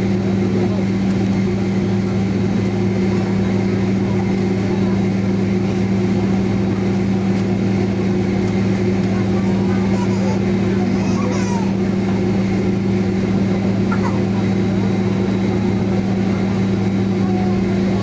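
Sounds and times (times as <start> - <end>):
cabin air drone: 0.0 - 18.0
jet engines idling: 0.0 - 18.0.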